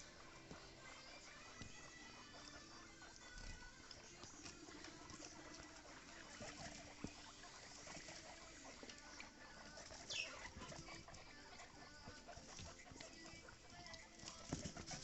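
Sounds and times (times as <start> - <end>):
guinea pig squeak: 0.0 - 15.0.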